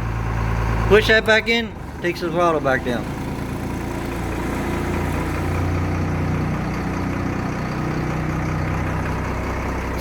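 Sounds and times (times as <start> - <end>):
diesel bus engine idling: 0.0 - 10.0.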